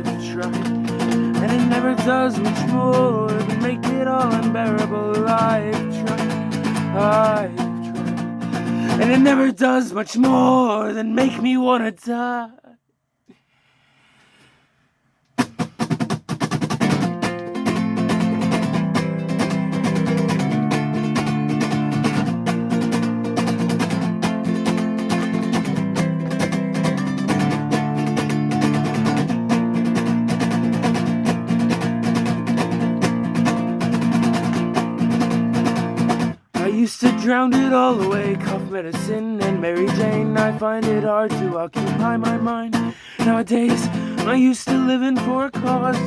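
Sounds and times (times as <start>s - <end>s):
strummed guitar chords: 0.0s - 11.9s, 15.4s - 46.0s.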